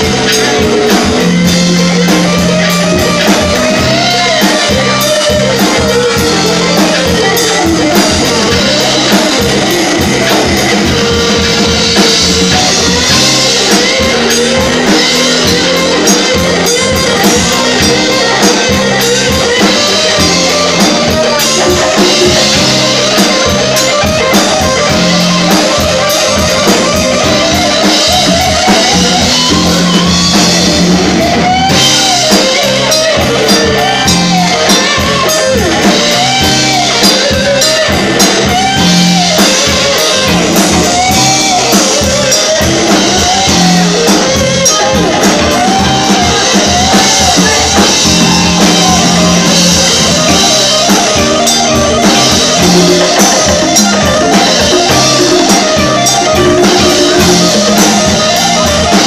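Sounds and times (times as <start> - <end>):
drum kit beat: 0.0 - 59.0
live band playing: 0.0 - 59.0.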